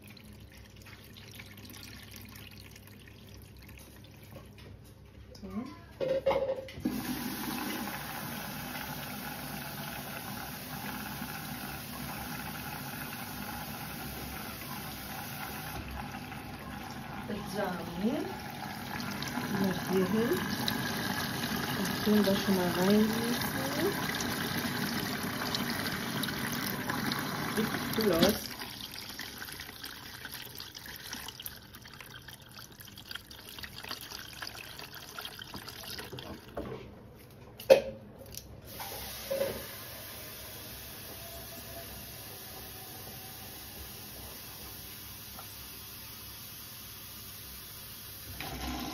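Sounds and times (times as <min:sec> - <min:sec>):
washing machine hum: 0:00.0 - 0:48.9.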